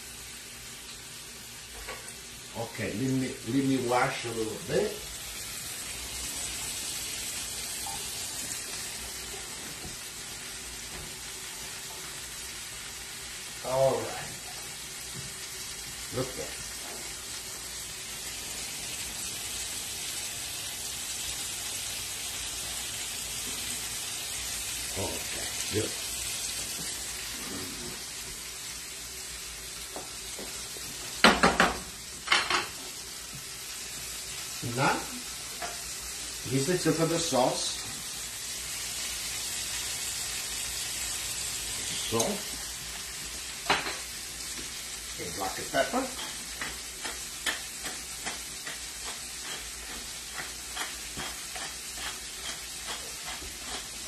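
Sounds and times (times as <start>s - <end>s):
steak sizzling in a pan: 0.0s - 54.0s.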